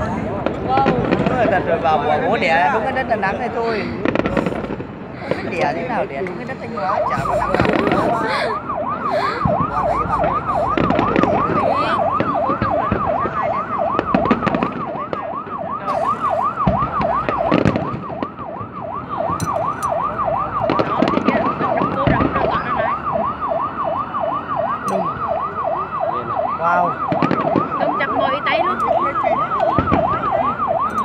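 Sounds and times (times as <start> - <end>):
fireworks bangs: 0.0 - 23.4, 26.4 - 31.0
siren yelping: 0.0 - 31.0.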